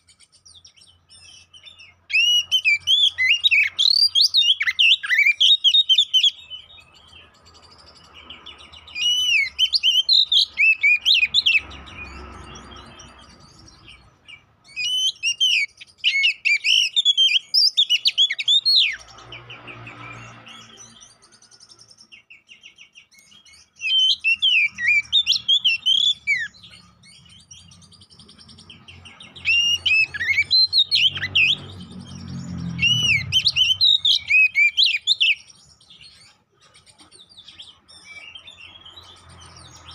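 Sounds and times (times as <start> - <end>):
magpie-robin singing whistles: 0.0 - 39.9.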